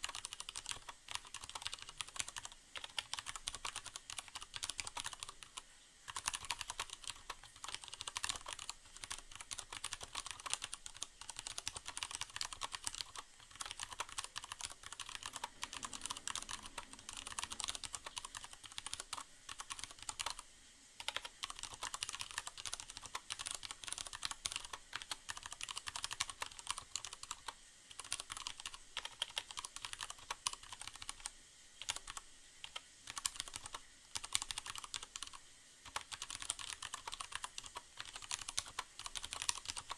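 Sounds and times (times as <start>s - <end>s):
fast typing on mechanical keyboard: 0.0s - 20.4s, 21.0s - 39.9s.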